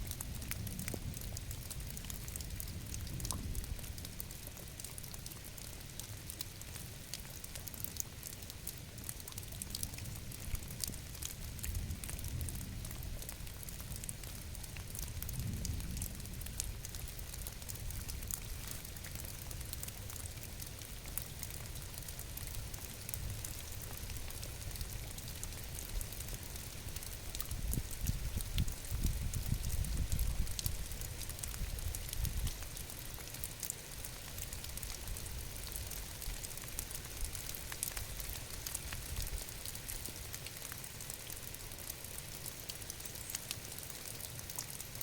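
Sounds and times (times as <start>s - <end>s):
rain pattering: 0.0s - 45.0s.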